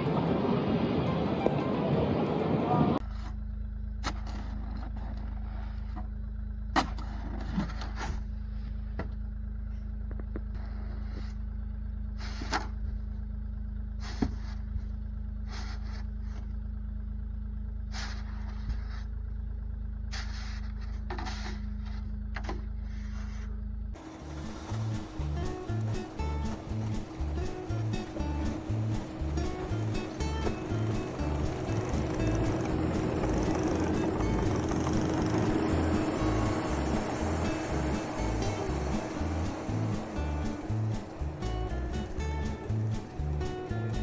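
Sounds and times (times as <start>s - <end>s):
vehicle engine droning: 0.0s - 44.0s.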